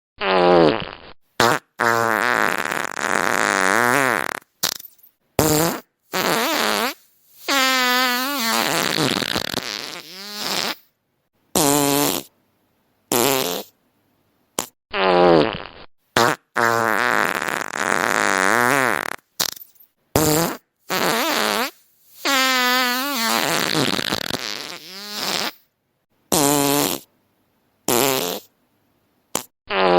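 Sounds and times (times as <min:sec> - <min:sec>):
fart sound effects: 0:00.2 - 0:10.9, 0:11.6 - 0:12.3, 0:13.1 - 0:13.7, 0:14.6 - 0:25.7, 0:26.3 - 0:27.1, 0:27.9 - 0:28.5, 0:29.3 - 0:29.9.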